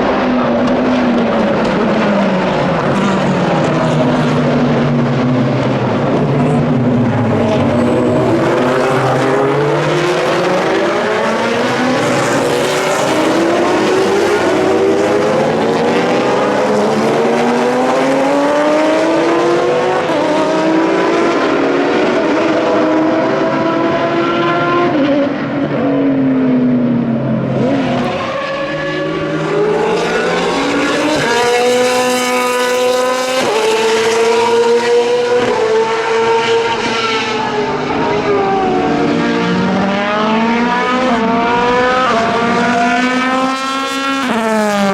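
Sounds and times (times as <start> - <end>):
engine upshifting: 0.0 - 44.9
racing cars passing: 0.0 - 44.9.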